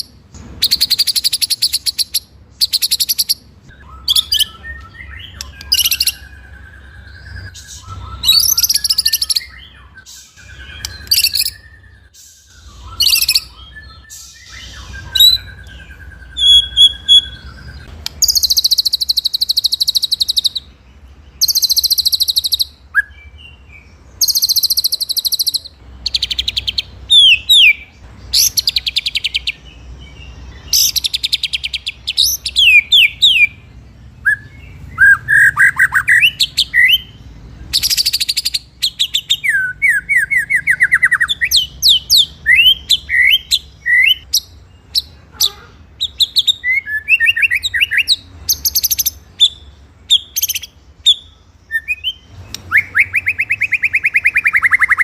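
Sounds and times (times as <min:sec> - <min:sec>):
bird whistling: 0:00.6 - 0:20.7, 0:21.4 - 0:23.4, 0:30.6 - 0:33.6, 0:34.2 - 0:45.1, 0:46.0 - 0:55.0.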